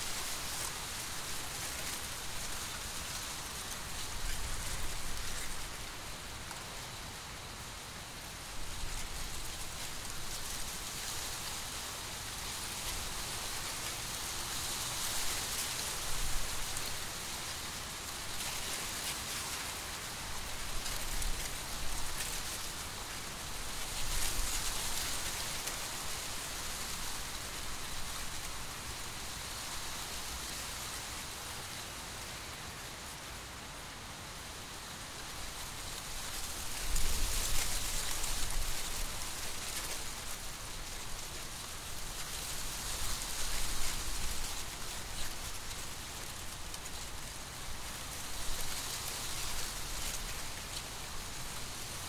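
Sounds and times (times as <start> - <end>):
wind rustling dry corn leaves: 0.0 - 52.0.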